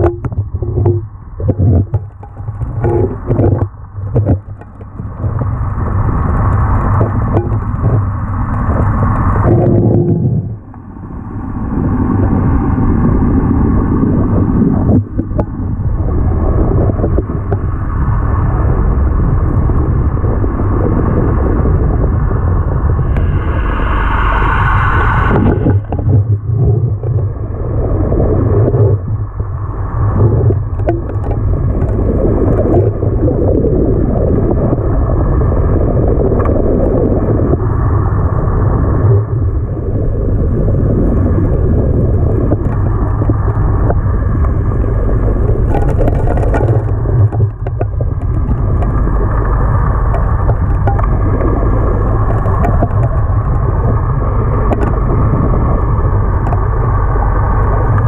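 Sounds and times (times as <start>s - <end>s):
pump engine drone: 0.0s - 58.0s.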